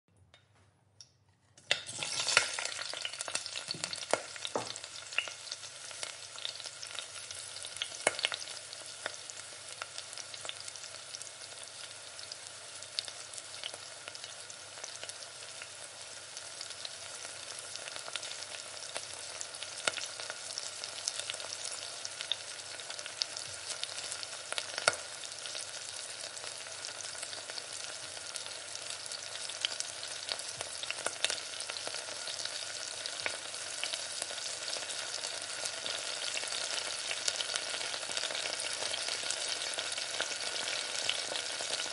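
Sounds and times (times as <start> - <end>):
food sizzling in a pan: 1.6 - 41.9.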